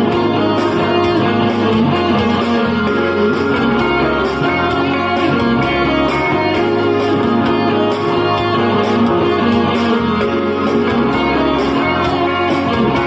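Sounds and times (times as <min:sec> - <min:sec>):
bass line: 0:00.0 - 0:13.0
electric guitar tune: 0:00.0 - 0:13.0
steady beat: 0:00.0 - 0:13.0.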